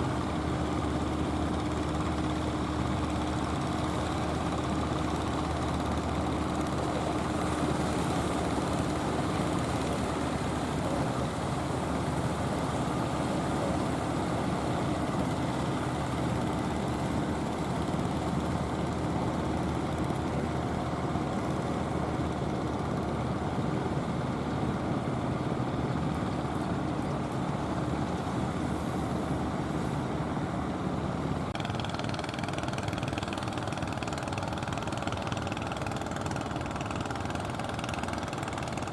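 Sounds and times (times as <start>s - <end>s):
motor boat engine humming: 0.0s - 38.9s.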